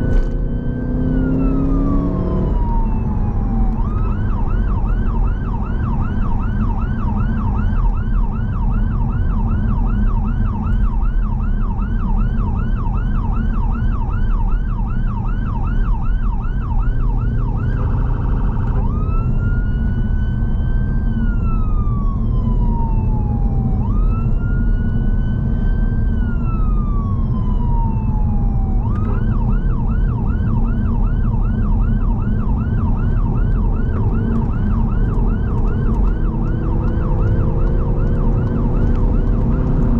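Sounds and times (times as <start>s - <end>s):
electronic siren yelping and wailing: 0.0s - 39.9s
engine and road noise: 0.0s - 39.9s.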